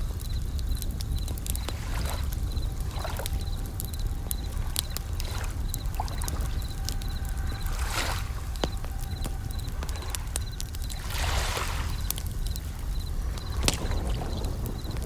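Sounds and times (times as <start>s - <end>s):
campfire crackling and popping: 0.0s - 15.0s
crickets trilling: 0.0s - 15.0s
waves rumbling: 0.0s - 15.0s.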